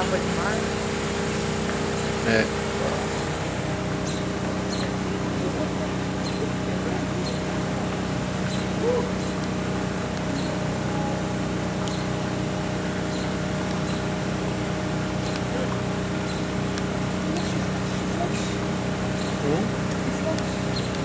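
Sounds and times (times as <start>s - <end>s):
small motor humming: 0.0s - 21.0s.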